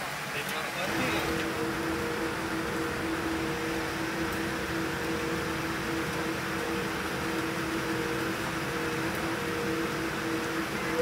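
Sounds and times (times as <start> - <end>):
machinery drone: 0.9 - 11.0
rush of ventilation air: 0.9 - 11.0
two-pitched hum: 0.9 - 11.0.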